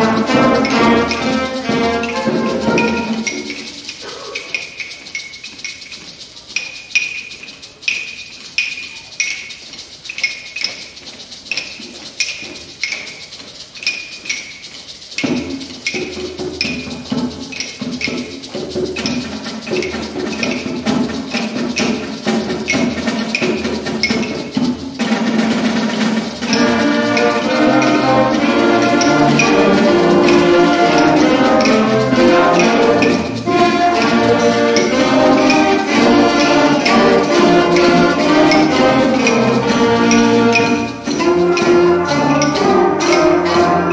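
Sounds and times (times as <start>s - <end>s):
concert band playing held notes: 0.0s - 6.5s, 15.2s - 43.9s
clicking percussion pattern: 0.0s - 43.9s.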